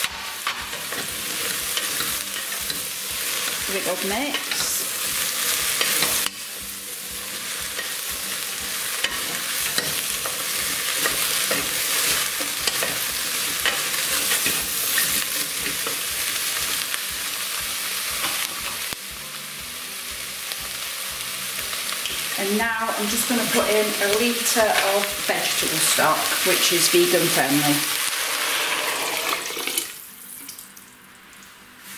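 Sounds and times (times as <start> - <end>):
vegetables sizzling in oil: 0.0 - 31.9.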